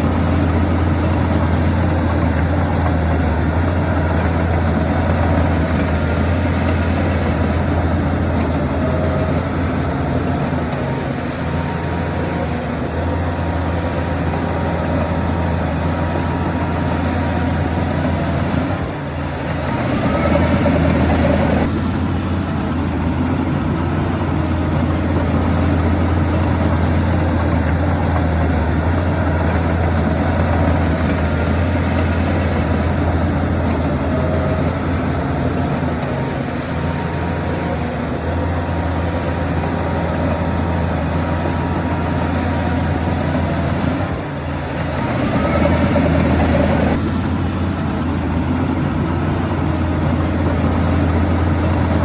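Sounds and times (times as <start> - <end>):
heavy diesel engine under load: 0.0 - 52.0.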